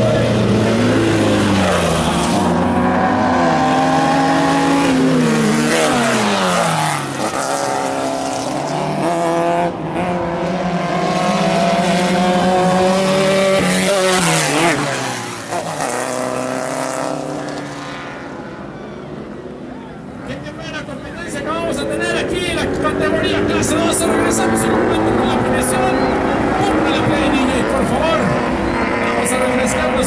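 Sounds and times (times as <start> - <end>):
racing buggy engines revving: 0.0 - 30.0.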